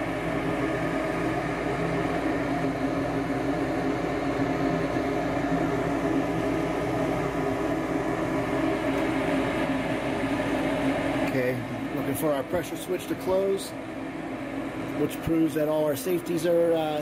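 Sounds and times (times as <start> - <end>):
furnace inducer motor humming: 0.0 - 17.0.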